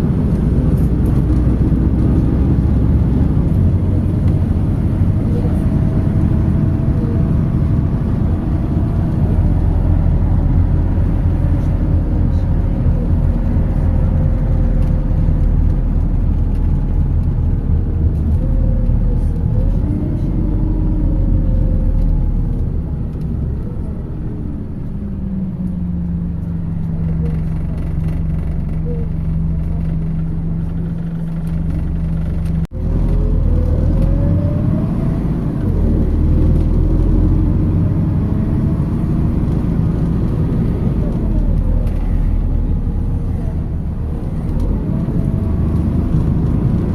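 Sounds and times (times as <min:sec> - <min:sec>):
bus engine and road rumble: 0:00.0 - 0:46.9.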